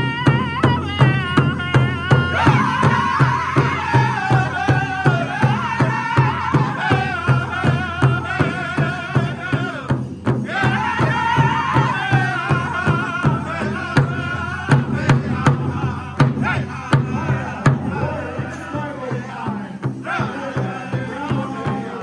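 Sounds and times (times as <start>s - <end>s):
large drum steady beat: 0.0s - 22.0s
men singing in unison: 0.0s - 22.0s.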